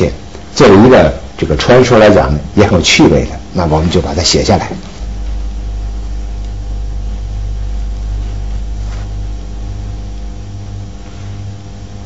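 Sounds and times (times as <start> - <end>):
faint hiss: 0.0 - 12.0
low electrical hum: 0.0 - 12.0.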